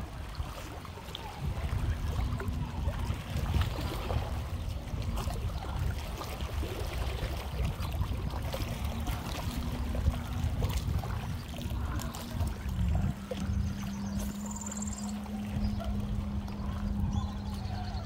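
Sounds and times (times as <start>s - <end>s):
sea water washing over rocks: 0.0s - 18.0s
steady low rumble: 0.0s - 18.0s.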